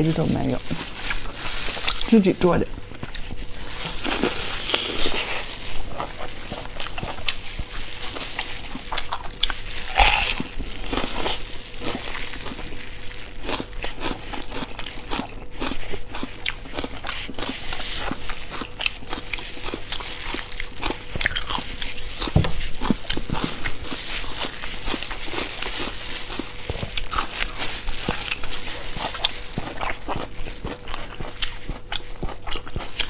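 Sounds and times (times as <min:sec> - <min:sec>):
wet chewing and clicking: 0:00.7 - 0:33.0.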